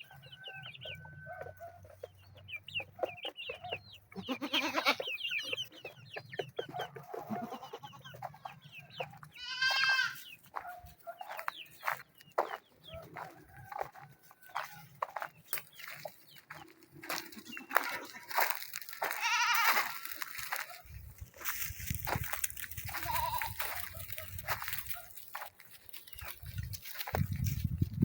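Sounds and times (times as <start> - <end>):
chickens clucking: 0.0 - 28.0
chicks peeping: 0.0 - 28.0.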